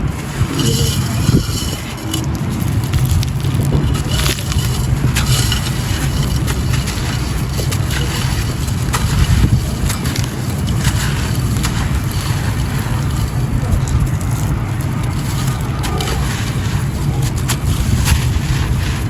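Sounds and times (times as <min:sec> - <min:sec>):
concrete crunching: 0:00.0 - 0:19.0
low rumble: 0:00.0 - 0:19.0.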